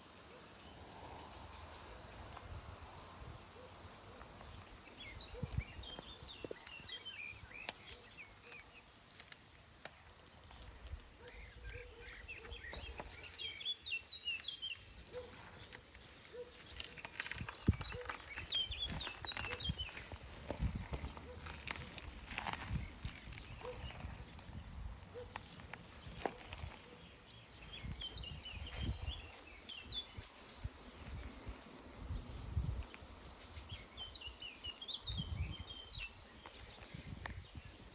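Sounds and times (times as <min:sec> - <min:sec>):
small birds chirping: 0:03.6 - 0:37.9.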